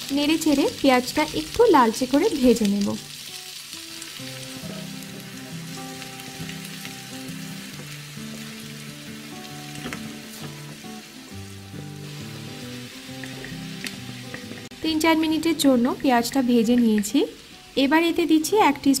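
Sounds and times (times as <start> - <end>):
onions sizzling in oil: 0.0 - 19.0
soft background music: 0.0 - 19.0.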